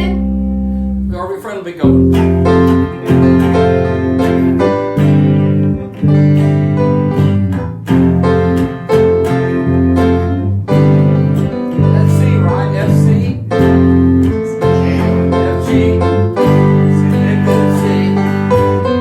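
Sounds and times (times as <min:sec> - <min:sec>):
guitar: 0:00.0 - 0:19.0.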